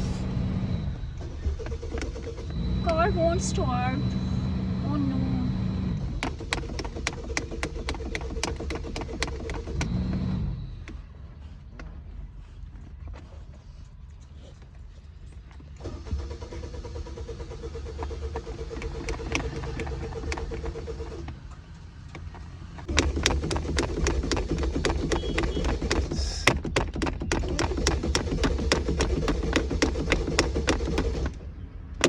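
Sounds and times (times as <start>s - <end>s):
car engine cranking: 0.0s - 12.0s, 12.6s - 32.0s.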